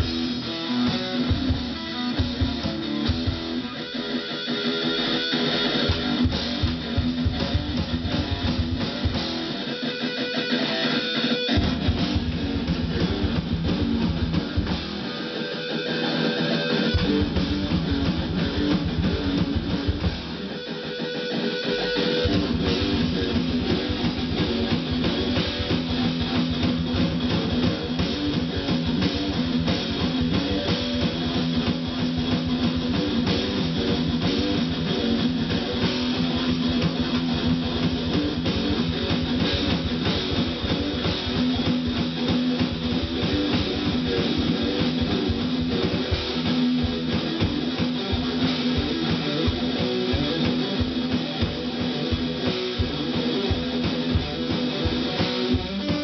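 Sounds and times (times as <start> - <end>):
electric guitar through amplifier: 0.0 - 56.0
electronic drums: 0.0 - 56.0.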